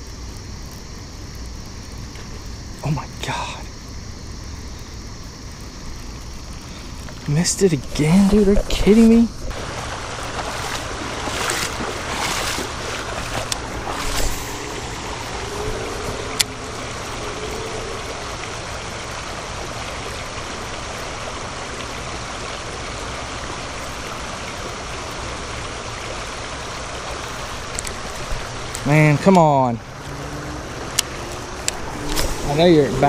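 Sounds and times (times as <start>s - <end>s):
river running over rocks: 0.0s - 33.0s.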